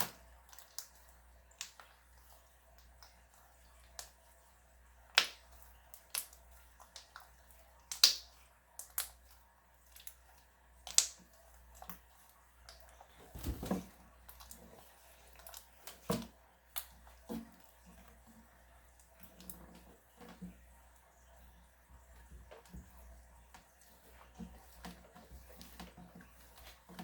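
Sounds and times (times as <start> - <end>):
slime squelch: 0.0 - 27.0.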